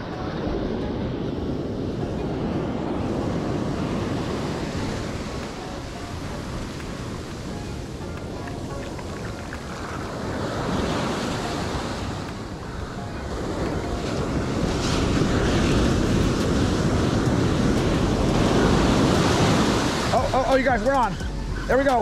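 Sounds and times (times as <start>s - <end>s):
ocean surf breaking on sand: 0.0s - 22.0s.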